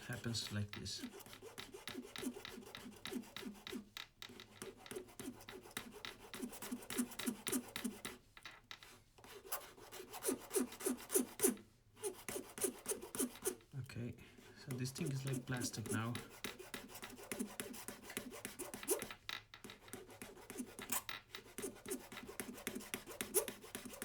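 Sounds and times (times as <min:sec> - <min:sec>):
hand tool scraping plastic: 0:00.0 - 0:13.7, 0:14.6 - 0:24.0.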